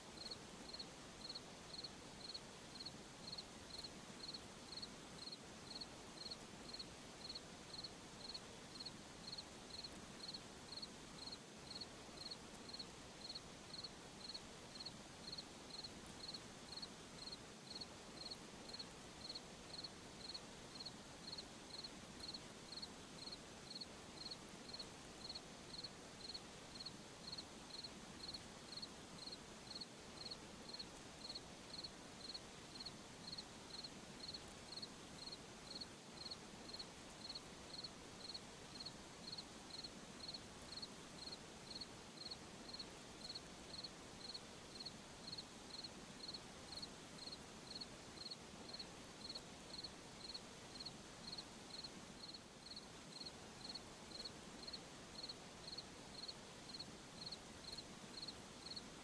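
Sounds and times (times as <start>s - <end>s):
night ambience hiss: 0.0s - 59.0s
cricket chirping: 0.2s - 58.8s.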